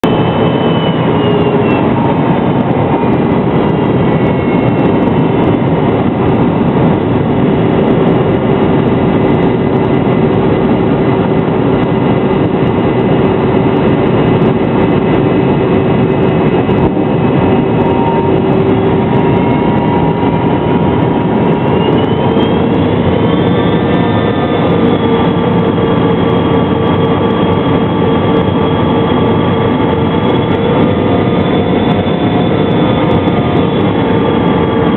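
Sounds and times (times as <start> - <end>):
jet engines roaring with whine: 0.0 - 34.9.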